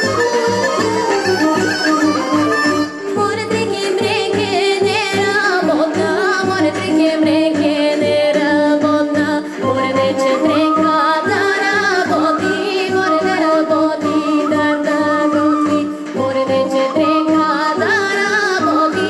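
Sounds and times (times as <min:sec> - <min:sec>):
woman singing into a microphone: 0:02.5 - 0:19.0.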